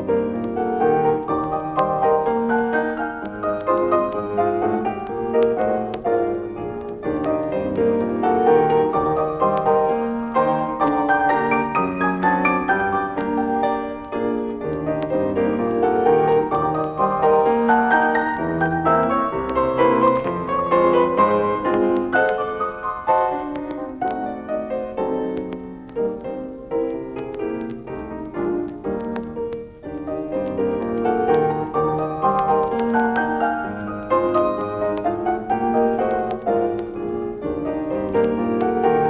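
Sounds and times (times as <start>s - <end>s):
solo piano: 0.0s - 39.0s.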